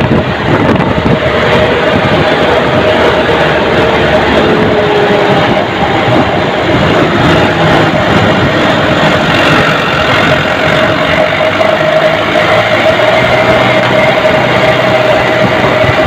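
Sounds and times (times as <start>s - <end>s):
road and wind noise: 0.0s - 16.0s
truck engine running loudly: 0.0s - 16.0s.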